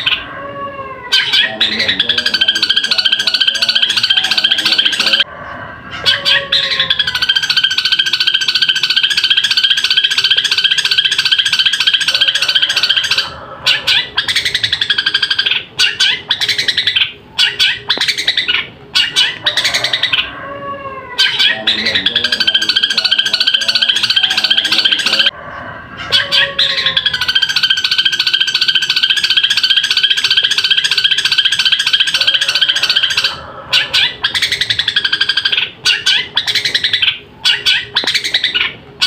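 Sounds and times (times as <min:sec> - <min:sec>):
bird chattering song: 0:01.1 - 0:05.3, 0:06.0 - 0:20.3, 0:21.2 - 0:25.4, 0:26.1 - 0:38.8.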